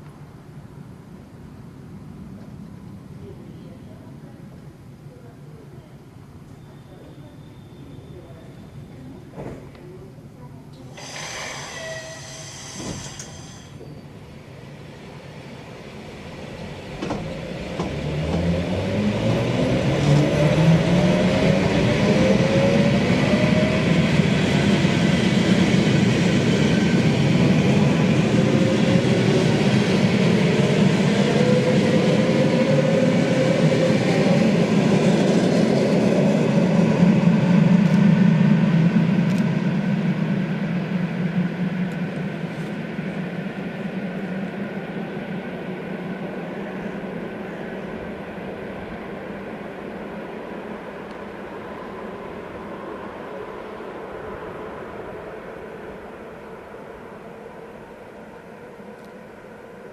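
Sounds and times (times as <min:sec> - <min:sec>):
train rail rumble: 0:00.0 - 0:59.9
electric train traction whine: 0:10.8 - 0:59.9.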